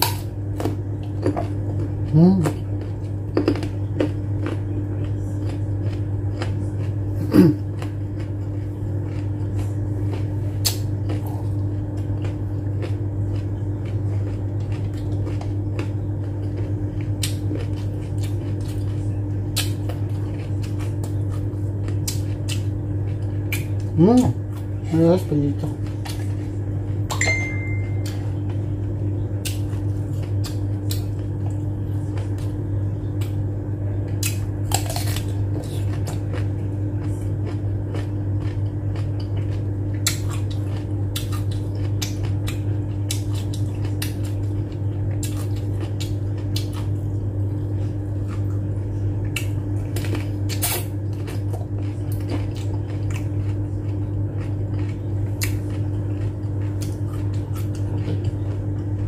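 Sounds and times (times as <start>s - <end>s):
cucumber being bitten and chewed: 0.0s - 26.4s, 29.3s - 33.4s, 34.0s - 47.1s, 47.8s - 59.0s
low hum: 0.0s - 59.0s.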